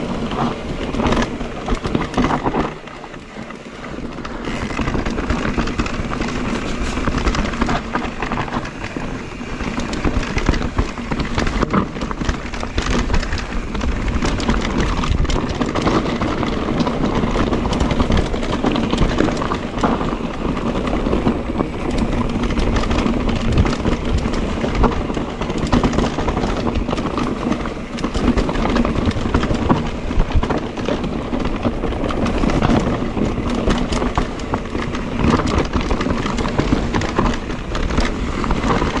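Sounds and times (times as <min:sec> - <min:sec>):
bike rattling over rough trail: 0:00.0 - 0:39.0.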